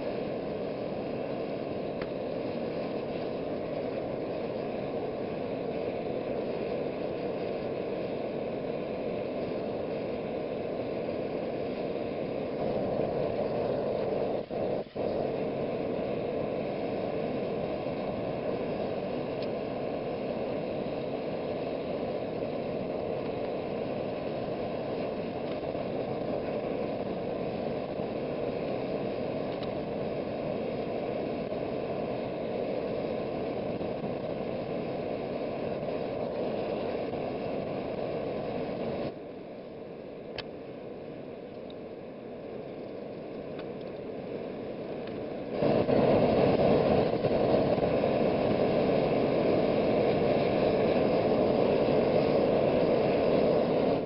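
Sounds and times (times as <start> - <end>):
forge fire and air rushing: 0.0 - 54.0.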